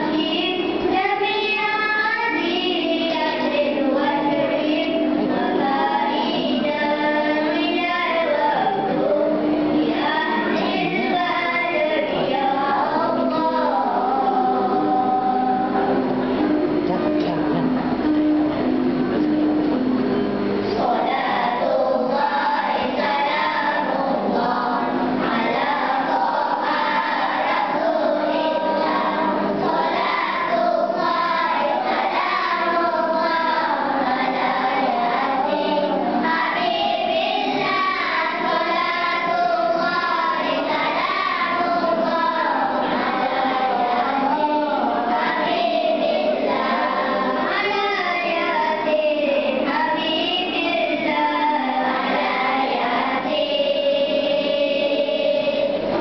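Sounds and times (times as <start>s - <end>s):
children singing in unison: 0.0s - 17.3s, 20.6s - 56.0s.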